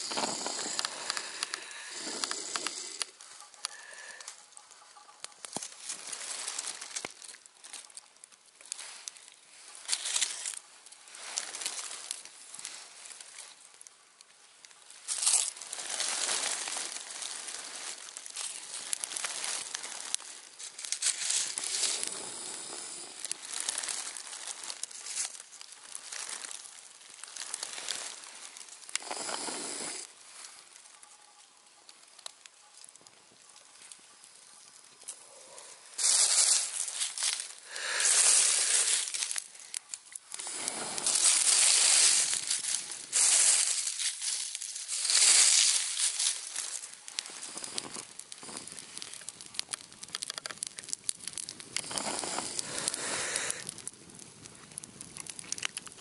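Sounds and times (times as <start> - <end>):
campfire crackling and hissing: 0.0 - 56.0.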